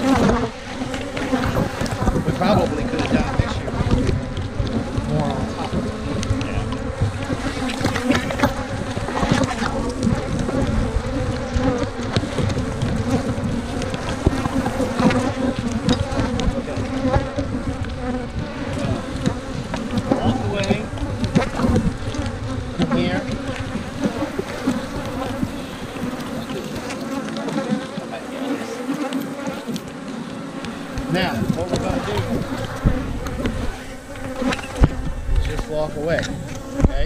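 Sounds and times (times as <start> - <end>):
honey bees buzzing: 0.0 - 37.0
single bees zipping past: 0.0 - 37.0.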